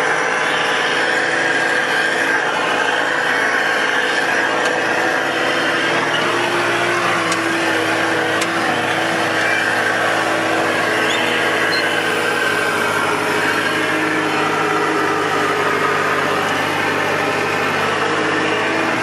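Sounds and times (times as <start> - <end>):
constant whine: 0.0 - 19.0
work machine engine running: 0.0 - 19.0.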